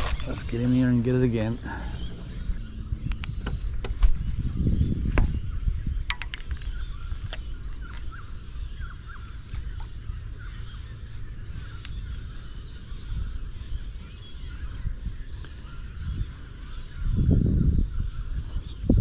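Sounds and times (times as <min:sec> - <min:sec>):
birds chirping: 0:00.0 - 0:19.0
wind rumble: 0:00.0 - 0:19.0.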